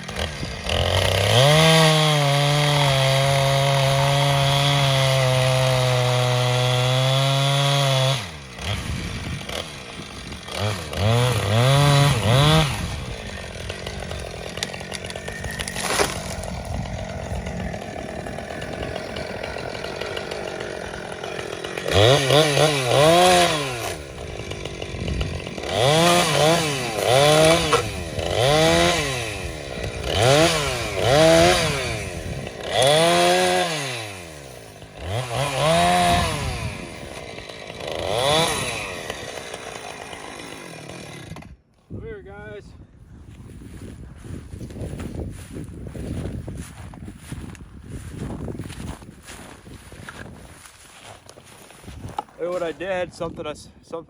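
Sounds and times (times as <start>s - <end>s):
chainsaw revving and idling: 0.0s - 42.6s, 44.5s - 54.0s.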